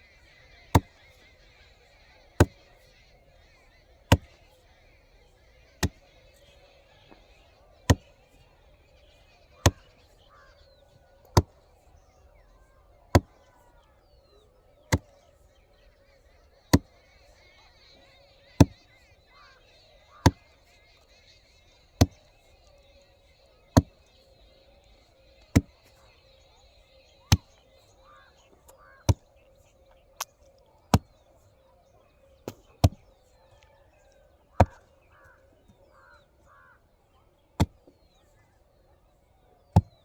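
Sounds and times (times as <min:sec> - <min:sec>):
short bird calls: 0:00.0 - 0:40.0.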